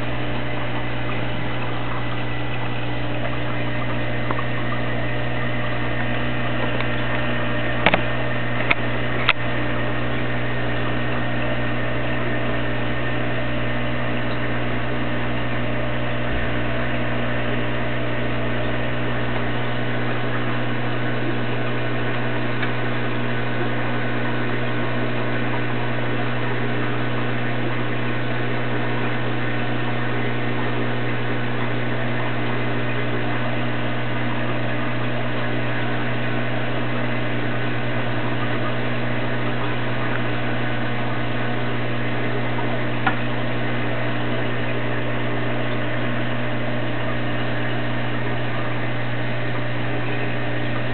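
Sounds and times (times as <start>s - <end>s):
low mechanical hum: 0.0s - 50.9s.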